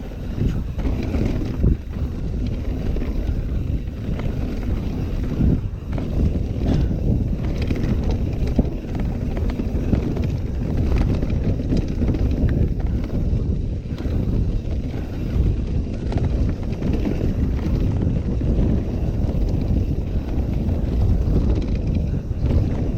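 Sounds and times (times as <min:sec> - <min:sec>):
tyre rumble: 0:00.0 - 0:22.9
wind buffeting microphone: 0:00.0 - 0:22.9
bike clicks and knocks: 0:00.2 - 0:22.9.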